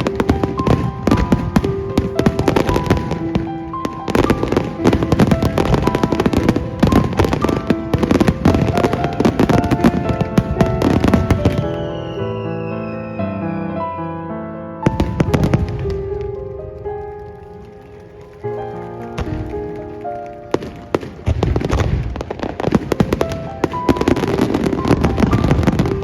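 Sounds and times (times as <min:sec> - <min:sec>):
fireworks bangs and crackle: 0:00.0 - 0:12.5, 0:14.8 - 0:26.0
background music: 0:00.0 - 0:26.0.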